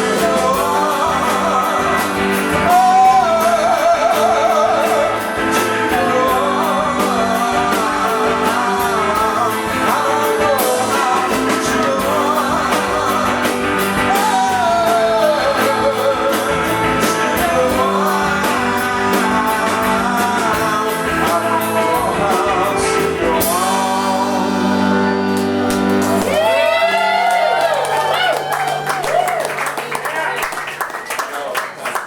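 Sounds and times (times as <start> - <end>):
singer's wordless vocal: 0.0 - 28.4
rock band playing: 0.0 - 31.1.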